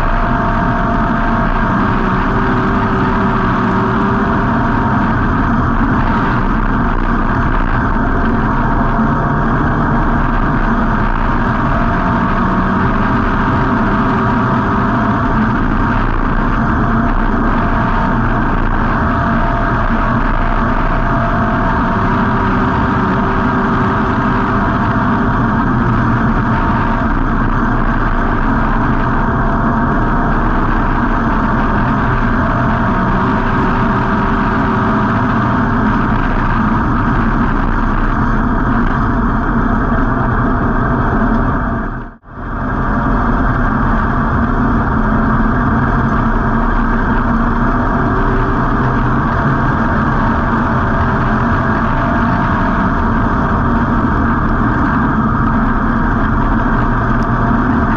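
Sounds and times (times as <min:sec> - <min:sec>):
race car engine running: 0:00.0 - 0:57.9
road noise: 0:00.0 - 0:57.9.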